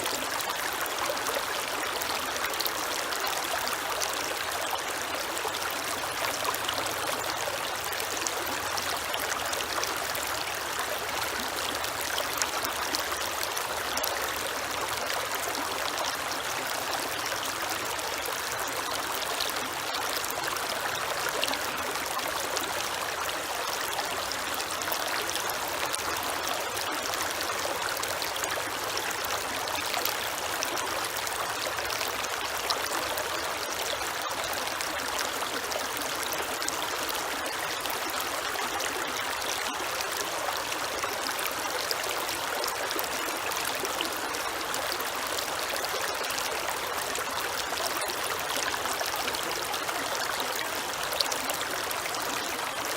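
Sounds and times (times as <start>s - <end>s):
creek water flowing over stones: 0.0s - 52.9s.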